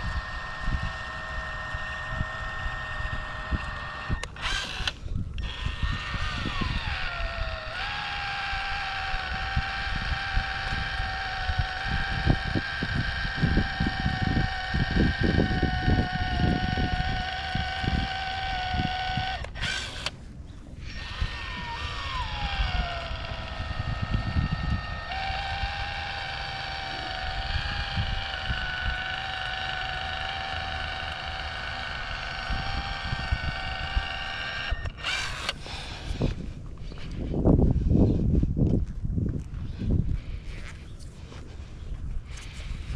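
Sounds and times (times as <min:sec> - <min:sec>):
electric motor whining: 0:00.0 - 0:38.3.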